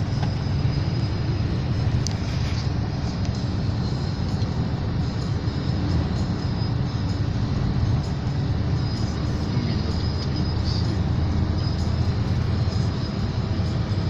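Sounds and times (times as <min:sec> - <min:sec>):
car driving at highway speed: 0:00.0 - 0:14.0.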